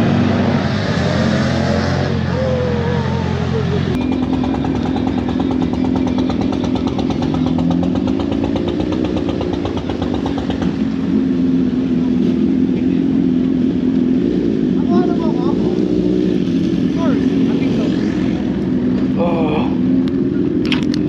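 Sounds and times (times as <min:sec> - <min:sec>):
motorcycle engine running: 0:02.0 - 0:21.0.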